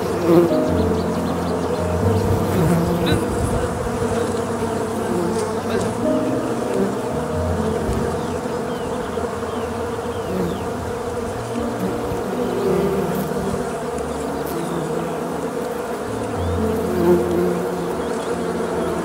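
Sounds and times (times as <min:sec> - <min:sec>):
swarm of bees buzzing: 0:00.0 - 0:19.0.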